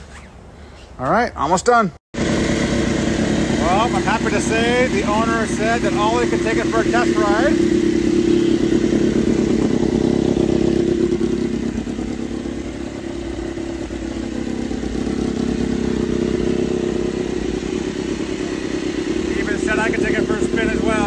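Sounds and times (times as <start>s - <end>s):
motorcycle engine idling: 2.2s - 21.0s.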